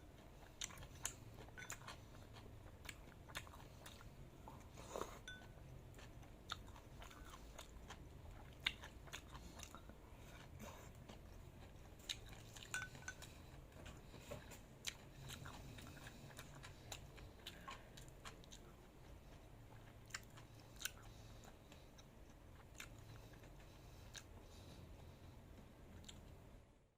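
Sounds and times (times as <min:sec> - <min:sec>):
person chewing crunchy food: 0:00.0 - 0:26.4.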